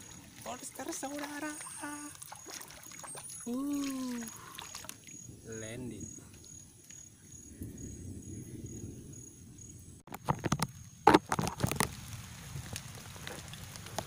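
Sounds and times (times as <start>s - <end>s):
rain pattering on a pond: 0.0s - 7.7s, 10.0s - 14.0s.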